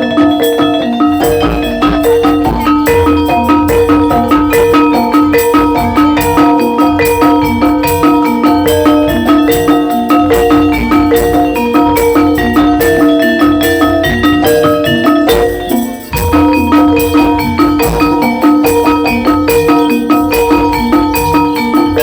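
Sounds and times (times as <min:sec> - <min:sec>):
metal mallet instruments: 0:00.0 - 0:22.0
low drum: 0:00.1 - 0:22.0.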